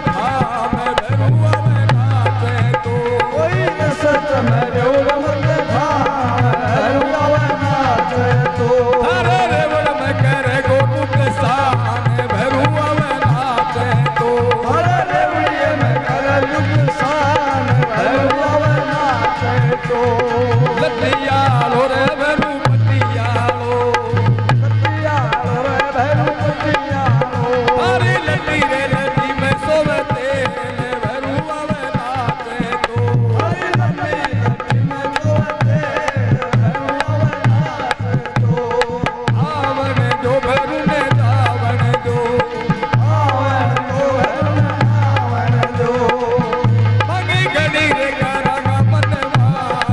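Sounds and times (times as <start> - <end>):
hand drum beating rhythm: 0.0 - 16.0, 16.7 - 49.9
harmonium: 0.0 - 49.9
man singing through microphone: 0.0 - 49.9.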